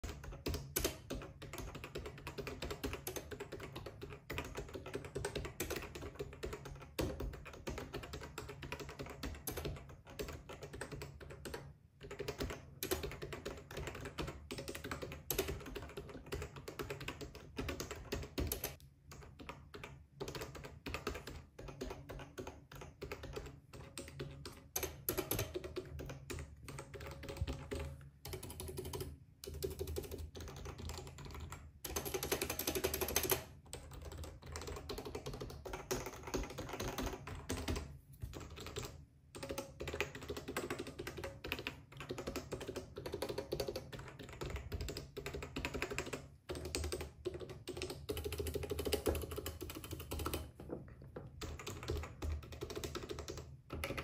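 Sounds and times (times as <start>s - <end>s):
fast keyboard typing clacks: 0.0s - 50.6s, 51.2s - 54.0s.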